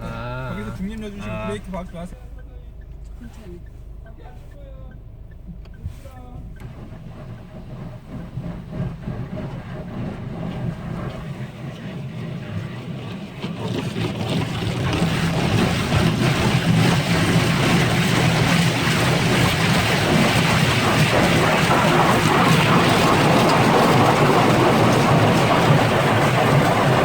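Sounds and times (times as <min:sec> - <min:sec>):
car wash machine hum: 0:00.0 - 0:27.0
water spray hitting a car: 0:01.8 - 0:27.0.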